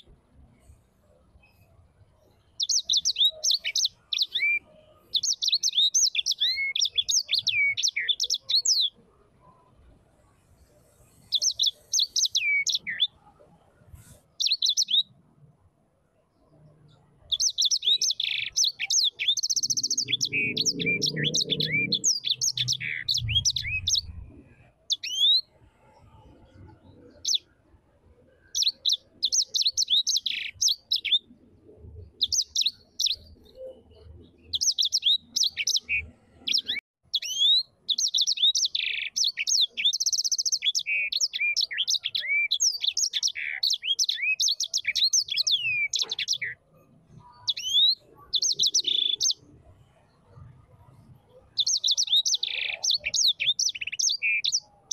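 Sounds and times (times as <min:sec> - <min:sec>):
bird singing: 0:00.0 - 0:15.4, 0:16.1 - 0:54.9.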